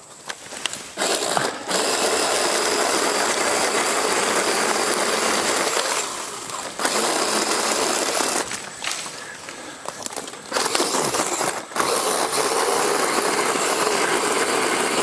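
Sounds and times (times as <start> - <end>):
power saw cutting tree limbs: 0.0 - 15.0.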